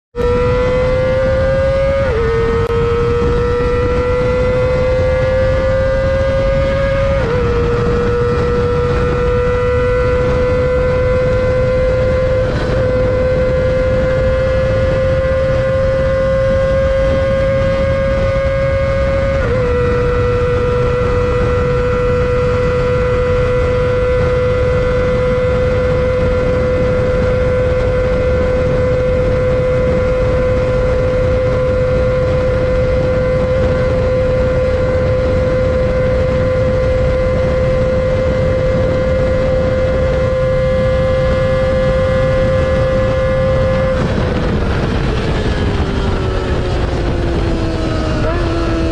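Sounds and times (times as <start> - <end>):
wind noise: 0.1 - 48.9
motorcycle engine screaming: 0.2 - 48.9.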